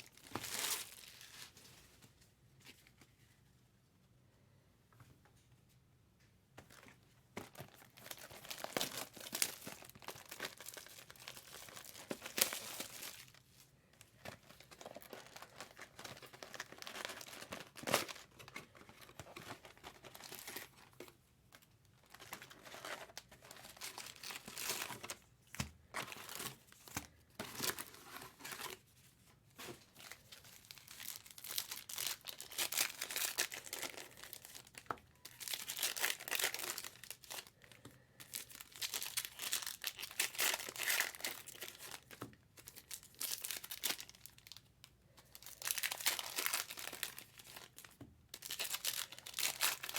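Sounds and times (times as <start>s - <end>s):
card pack wrappers crinkling: 0.0s - 1.6s, 6.7s - 28.9s, 29.6s - 49.9s.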